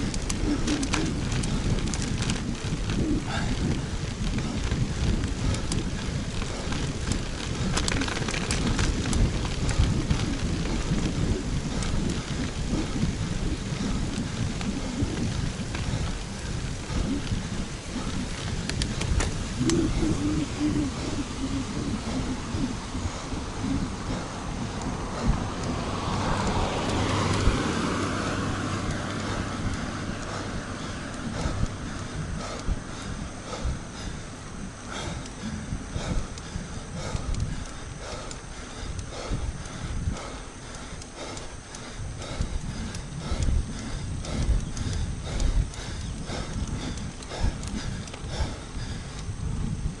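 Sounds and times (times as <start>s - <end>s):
sharp ticks: 0.0s - 50.0s
tyre noise on road: 0.0s - 50.0s
wind buffeting microphone: 0.0s - 50.0s.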